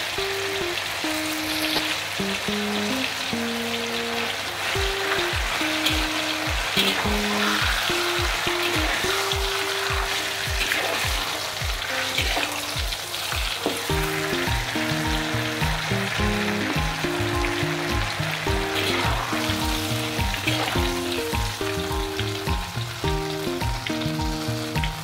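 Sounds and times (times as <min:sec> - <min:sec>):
batter sizzling in hot oil: 0:00.0 - 0:25.0
background music with a beat: 0:04.8 - 0:25.0.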